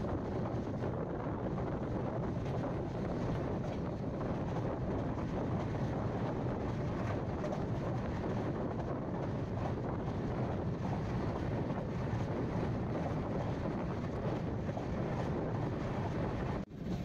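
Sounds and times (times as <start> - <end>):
train coach rumbling: 0.0 - 17.0
wind buffeting microphone: 0.0 - 17.0.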